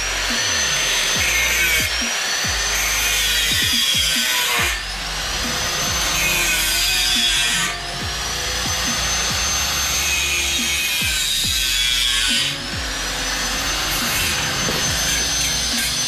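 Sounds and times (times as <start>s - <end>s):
angle grinder cutting steel tube: 0.0s - 16.0s.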